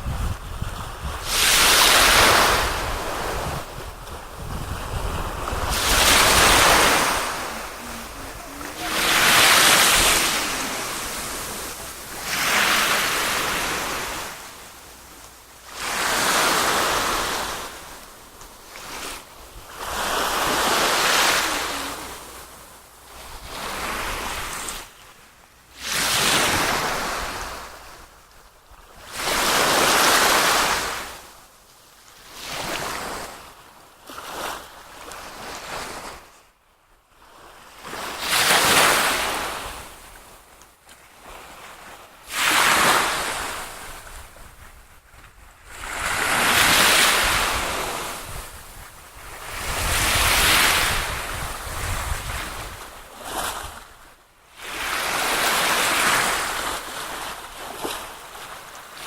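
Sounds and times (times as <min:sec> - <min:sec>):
waves washing in: 0:00.0 - 0:25.1, 0:25.7 - 0:28.1, 0:29.0 - 0:31.4, 0:37.6 - 0:40.5, 0:41.1 - 0:44.8, 0:45.6 - 0:59.0.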